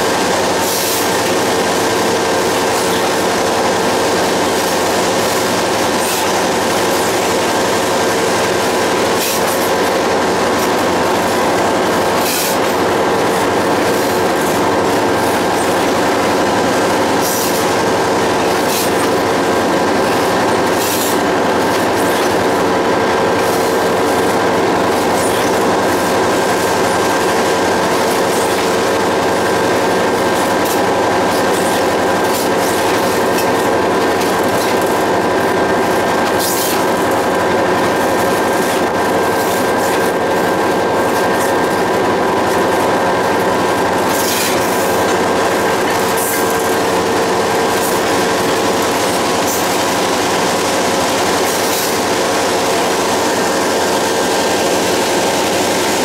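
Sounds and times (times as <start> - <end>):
train running on track: 0.0 - 56.0.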